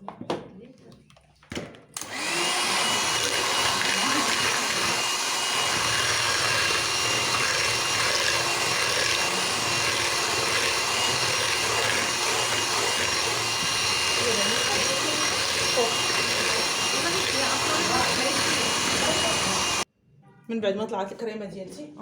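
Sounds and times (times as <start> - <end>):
electric mixer whine: 2.0 - 19.9.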